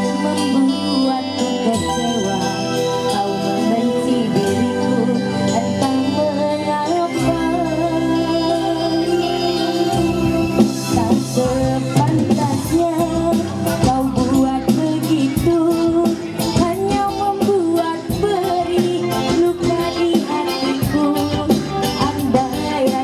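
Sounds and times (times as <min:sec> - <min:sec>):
person singing with vibrato: 0:00.0 - 0:23.0
sustained keyboard chords: 0:00.0 - 0:23.0.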